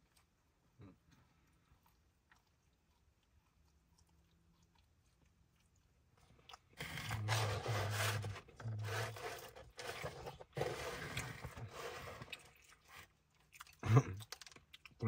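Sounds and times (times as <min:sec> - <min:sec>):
chewing and crunching pizza: 0:00.0 - 0:15.0.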